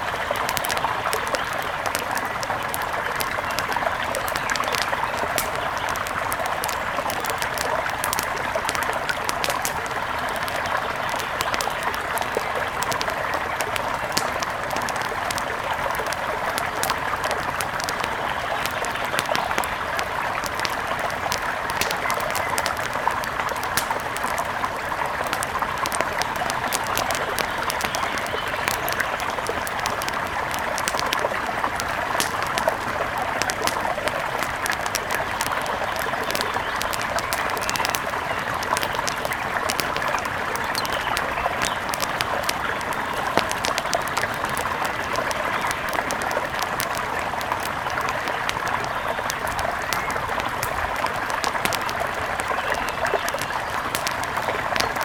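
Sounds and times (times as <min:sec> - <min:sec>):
light crackles: 0:00.0 - 0:55.0.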